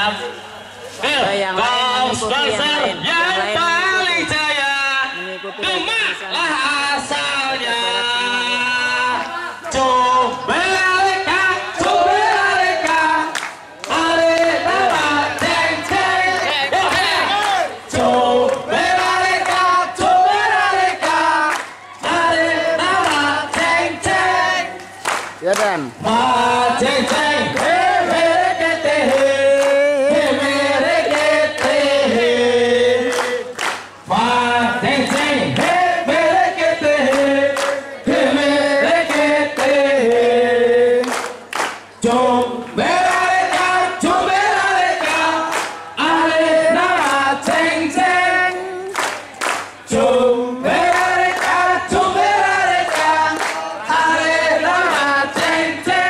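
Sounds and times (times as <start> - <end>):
men singing in unison: 6.2 - 24.8, 25.8 - 49.0, 49.8 - 56.0.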